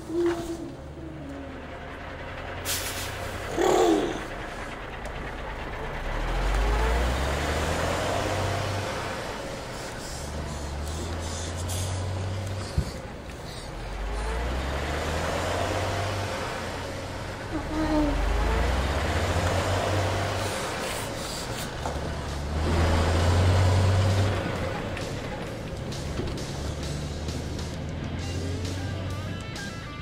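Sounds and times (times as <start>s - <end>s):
heavy truck engine rumbling: 0.0s - 30.0s.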